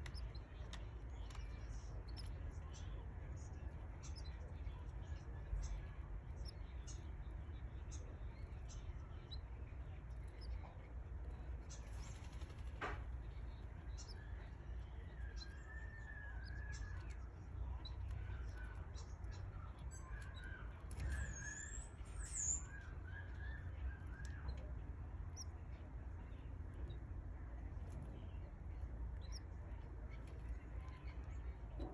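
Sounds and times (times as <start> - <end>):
canaries chirping: 0.0 - 31.9
steady low hum: 0.0 - 31.9.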